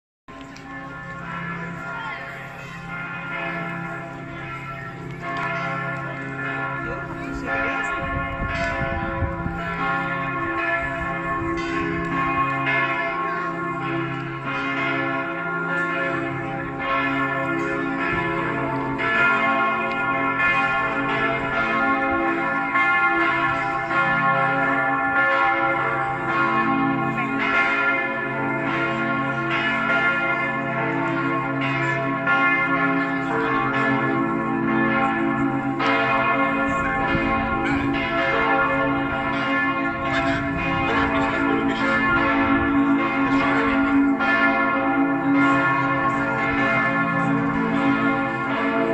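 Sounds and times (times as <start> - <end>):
church bells pealing: 0.3 - 48.9.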